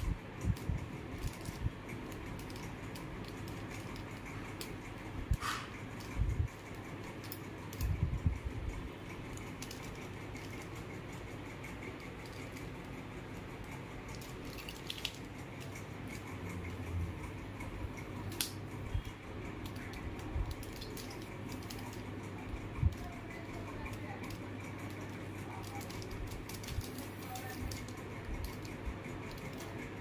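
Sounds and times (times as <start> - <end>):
low room hum: 0.0 - 30.0
puzzle cube clicking: 0.5 - 8.2, 9.1 - 30.0.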